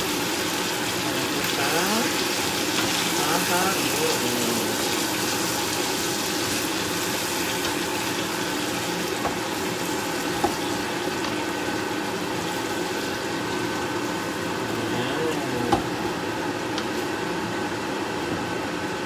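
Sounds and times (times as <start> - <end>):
sauce bubbling in a frying pan: 0.0 - 19.0.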